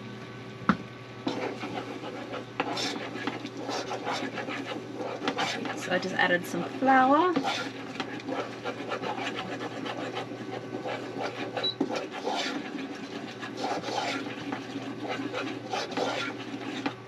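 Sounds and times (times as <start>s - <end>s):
utensil scraping a pot: 1.3s - 17.0s.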